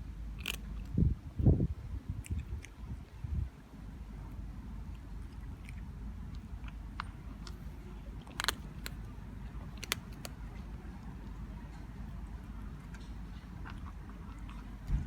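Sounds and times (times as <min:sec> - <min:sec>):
cat chewing food: 0:00.3 - 0:01.0, 0:02.1 - 0:15.0.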